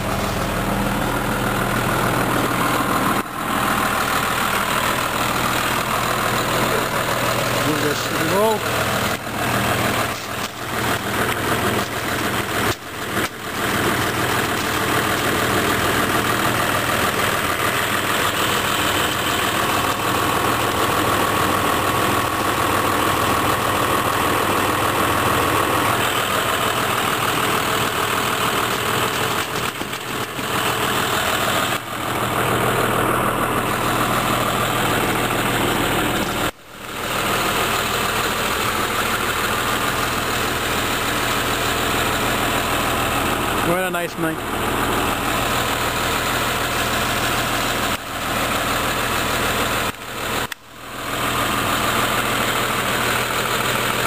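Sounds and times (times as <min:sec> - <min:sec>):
grooming machine engine running: 0:00.0 - 0:54.0.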